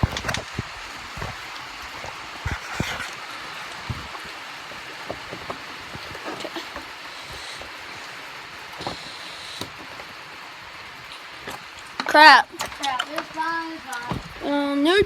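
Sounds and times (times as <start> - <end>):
rain hissing: 0.0 - 15.0
raindrops ticking nearby: 0.0 - 15.0.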